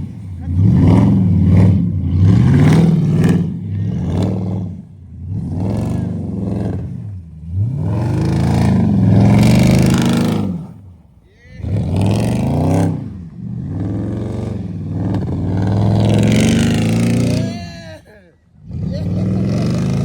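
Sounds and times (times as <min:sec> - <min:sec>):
car engine revving hard: 0:00.0 - 0:10.9, 0:11.6 - 0:17.6, 0:18.6 - 0:20.0.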